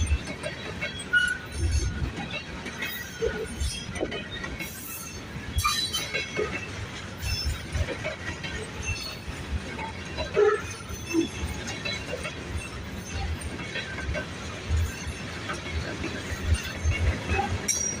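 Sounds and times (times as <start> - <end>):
train wheel squeals: 0.0 - 18.0.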